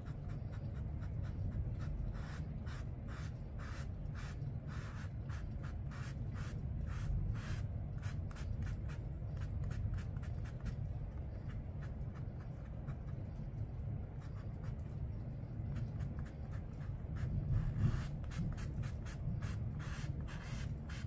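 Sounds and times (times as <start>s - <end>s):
paintbrush swishing on paper: 0.0s - 21.0s
steady low hum: 0.0s - 21.0s.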